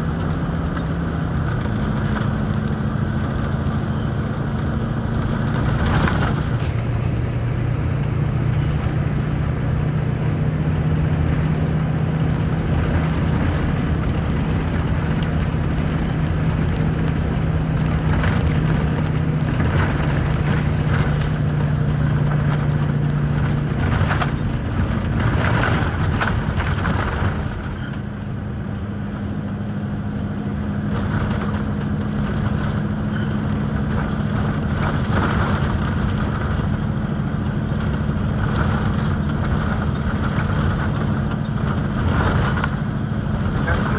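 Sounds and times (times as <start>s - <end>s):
knocks and clatter: 0.0s - 9.6s, 10.8s - 28.3s, 30.8s - 43.9s
truck engine running: 0.0s - 43.9s.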